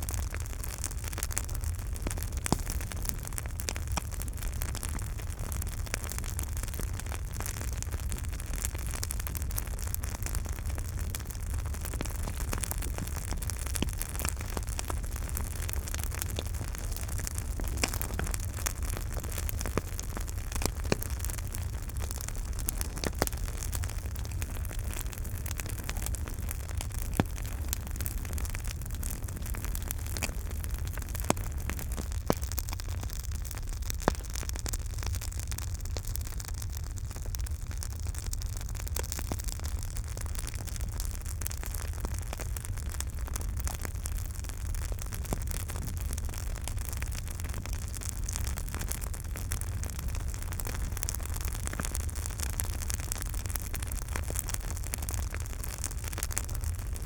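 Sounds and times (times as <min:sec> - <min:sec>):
burning wood crackling and popping: 0:00.0 - 0:57.0
flames rumbling and hissing: 0:00.0 - 0:57.0.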